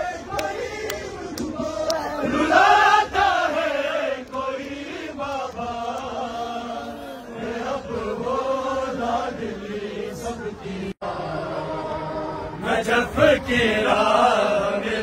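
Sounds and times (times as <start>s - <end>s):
lead reciters singing into microphones: 0.0s - 15.0s
men chanting: 0.0s - 15.0s.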